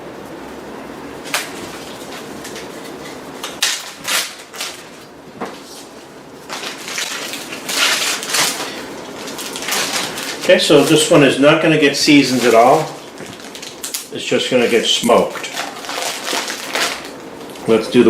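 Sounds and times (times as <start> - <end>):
plastic bag crinkling: 1.2 - 18.0.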